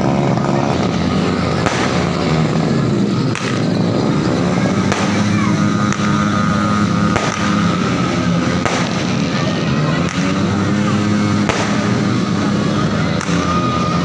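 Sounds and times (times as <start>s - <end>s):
distant fireworks bursting: 0.0s - 14.0s
sharp firework bangs: 0.4s - 13.6s.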